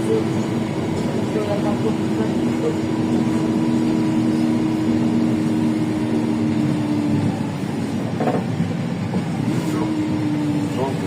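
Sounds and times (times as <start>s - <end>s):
bus drivetrain hum: 0.0s - 11.0s.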